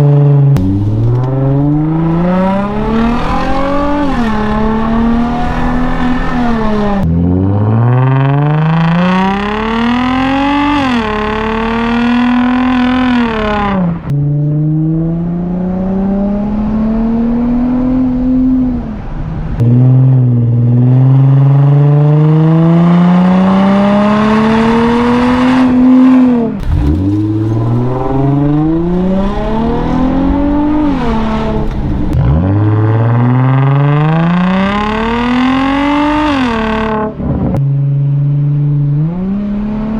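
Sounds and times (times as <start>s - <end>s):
car engine accelerating: 0.6s - 39.9s.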